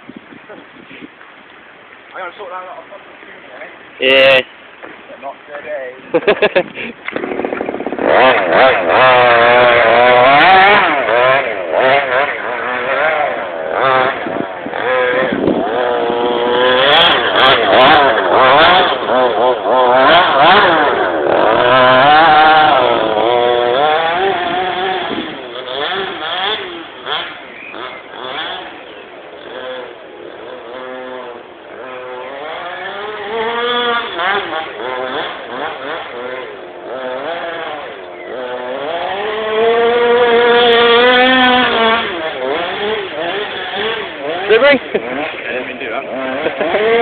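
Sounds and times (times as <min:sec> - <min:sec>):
small two-stroke engine revving: 0:03.6 - 0:04.5, 0:05.6 - 0:47.0.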